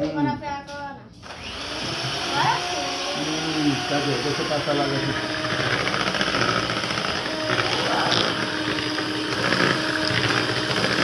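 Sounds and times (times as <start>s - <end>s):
electric mixer whirring: 1.2s - 11.0s.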